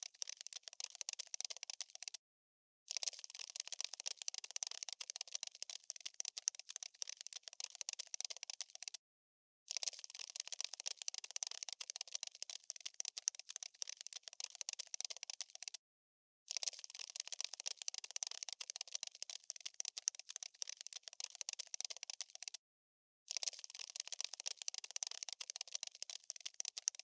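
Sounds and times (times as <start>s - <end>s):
insect scurrying clicks: 0.0s - 2.2s, 2.9s - 9.0s, 9.7s - 15.8s, 16.5s - 22.6s, 23.3s - 27.0s.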